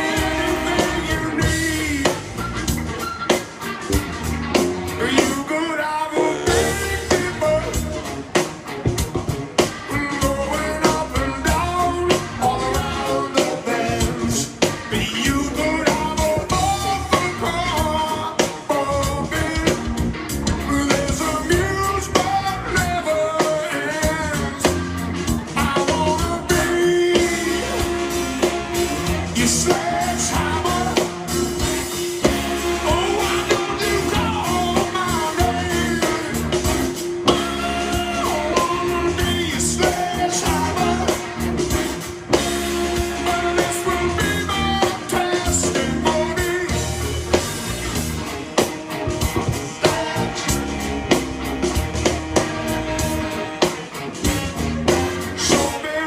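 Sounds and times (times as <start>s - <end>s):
rock song with singer and band: 0.0s - 56.0s.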